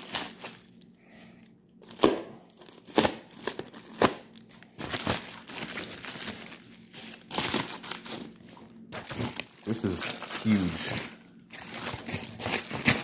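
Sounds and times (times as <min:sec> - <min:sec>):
packaging wrap crinkling: 0:00.0 - 0:13.0.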